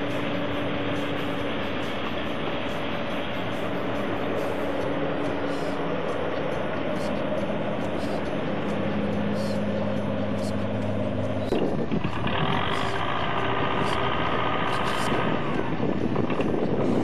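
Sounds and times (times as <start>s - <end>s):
combine harvester engine running: 0.0s - 17.0s
diesel tractor engine running: 0.0s - 17.0s.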